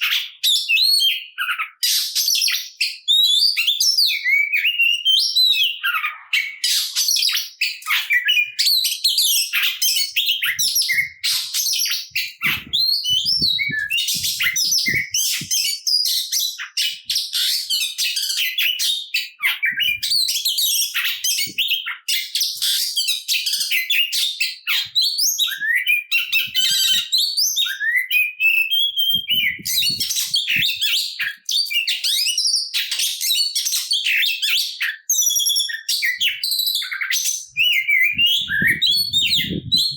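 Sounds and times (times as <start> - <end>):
bird singing varied whistles: 7.0 - 39.9.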